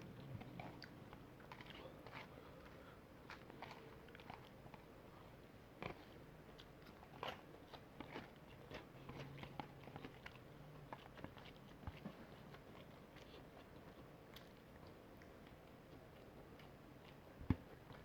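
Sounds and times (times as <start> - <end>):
chewing fried chicken: 0.0 - 18.0.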